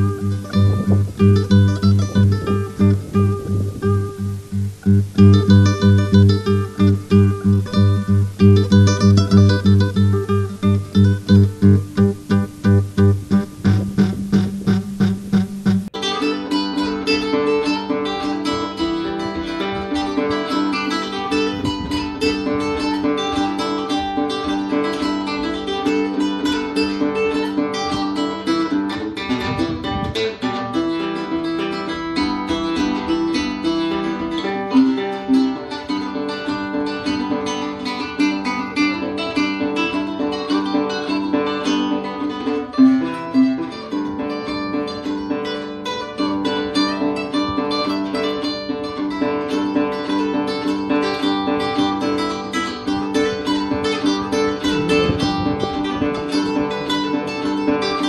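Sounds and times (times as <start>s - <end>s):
acoustic guitar picking and strumming: 0.0s - 58.0s.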